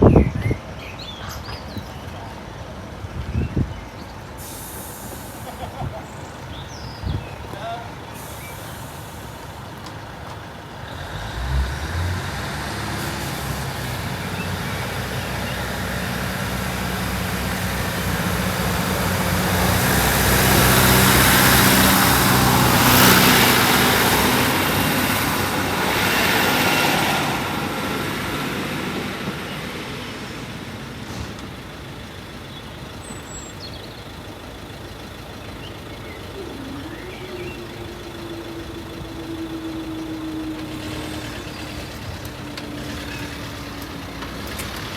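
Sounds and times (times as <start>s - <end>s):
train diesel engine: 0.6s - 44.9s
wheels on rails: 5.0s - 44.9s.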